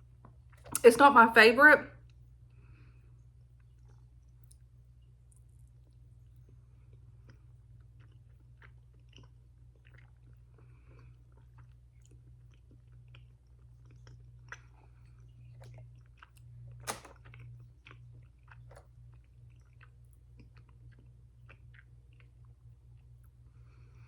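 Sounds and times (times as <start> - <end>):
person chewing: 2.8 - 24.0.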